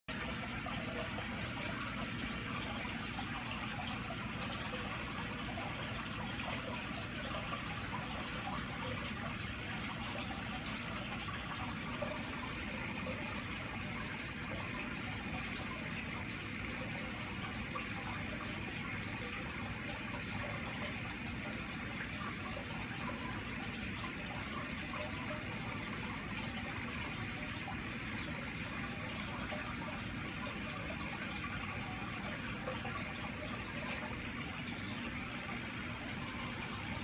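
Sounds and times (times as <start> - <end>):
aquarium filter water trickling: 0.1 - 37.0.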